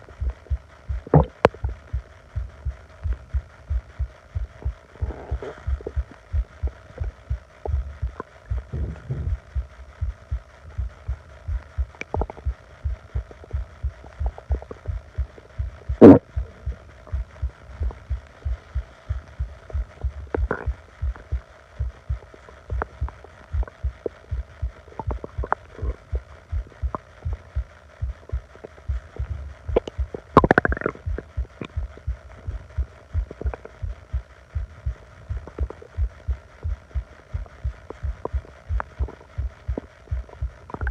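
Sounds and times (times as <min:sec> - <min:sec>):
low pulse-like thumping: 0:00.0 - 0:40.9
stomach gurgling: 0:00.0 - 0:40.9.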